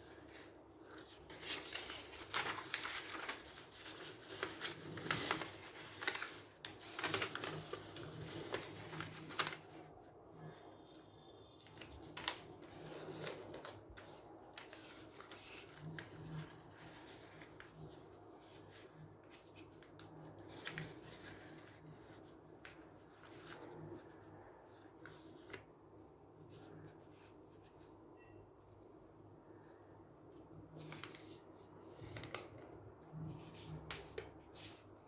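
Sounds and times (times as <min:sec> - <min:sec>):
paper rustling and crinkling: 0:00.0 - 0:11.0, 0:11.6 - 0:25.7, 0:30.3 - 0:35.0.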